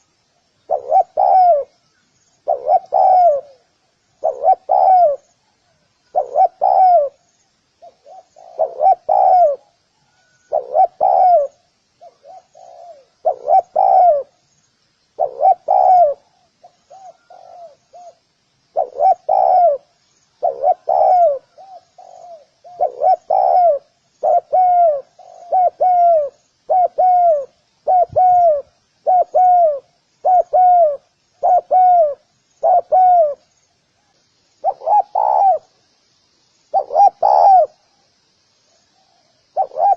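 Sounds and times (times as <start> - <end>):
faint high chirping: 0.0 - 39.9
dove cooing: 0.6 - 1.8, 2.4 - 5.5, 6.1 - 14.4, 15.2 - 33.4, 34.6 - 35.8, 36.7 - 37.8, 39.0 - 39.9.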